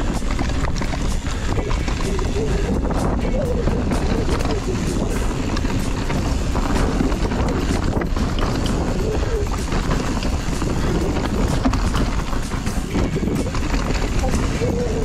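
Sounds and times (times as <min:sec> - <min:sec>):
bike rattling and knocking: 0:00.0 - 0:15.0
tyre and trail noise: 0:00.0 - 0:15.0
wind buffeting microphone: 0:00.0 - 0:15.0.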